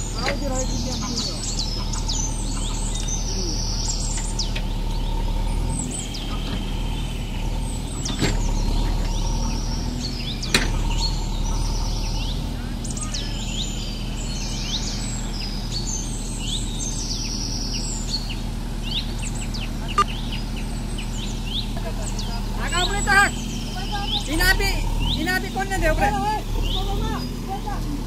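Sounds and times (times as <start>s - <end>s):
engine humming: 0.0s - 28.0s
small birds chirping and trilling: 0.0s - 28.0s.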